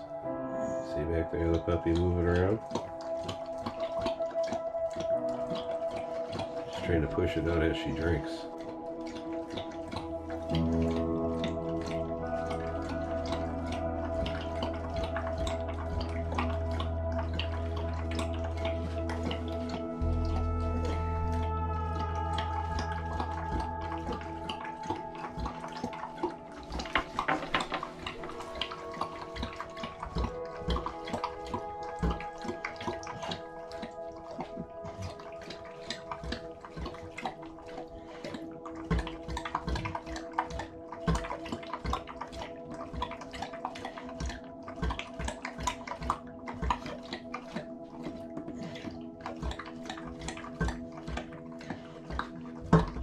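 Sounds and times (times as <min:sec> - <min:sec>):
dog lapping water: 0:00.9 - 0:53.0.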